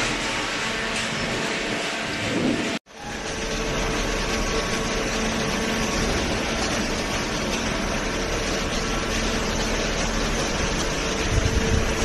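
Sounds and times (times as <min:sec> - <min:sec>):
baling machine drone: 0:00.0 - 0:12.0.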